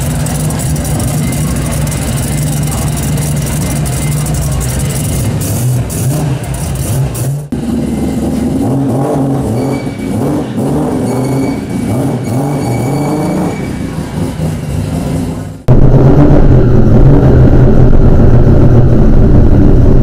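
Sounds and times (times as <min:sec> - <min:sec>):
rotary engine revving: 0:00.0 - 0:20.0.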